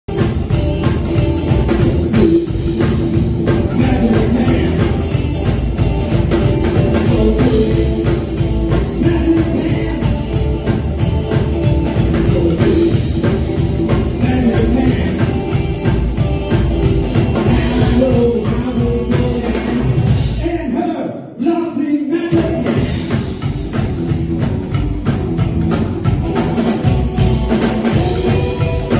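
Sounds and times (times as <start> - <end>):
drum kit: 0.0 - 20.8, 22.2 - 28.9
upright bass: 0.0 - 20.8, 22.3 - 28.9
electric guitar: 0.1 - 20.4, 22.3 - 28.9.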